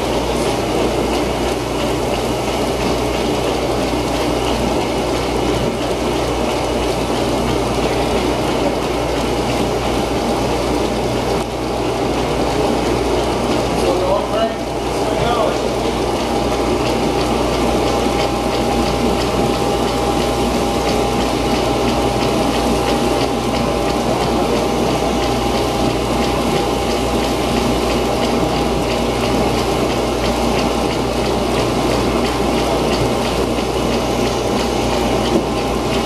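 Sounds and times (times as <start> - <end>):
pump and drive noise: 0.0 - 36.0
water and slurry washing: 0.0 - 36.0.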